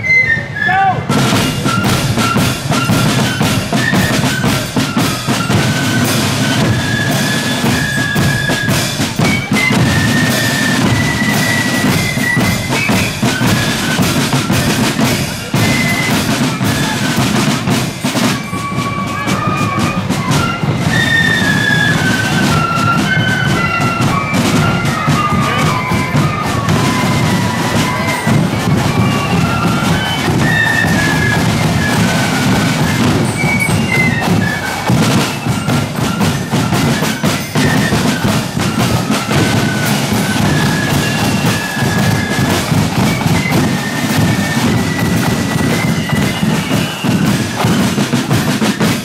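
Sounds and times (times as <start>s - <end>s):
flutes playing melody: 0.0s - 49.0s
side drums: 0.8s - 49.0s
steady drum beat: 1.0s - 49.0s.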